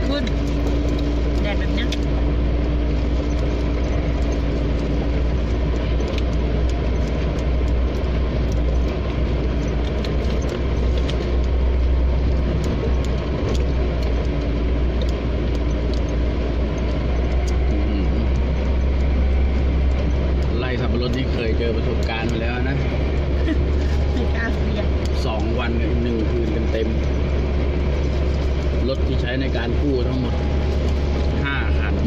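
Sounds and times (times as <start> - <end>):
off-road vehicle engine drone: 0.0 - 32.0.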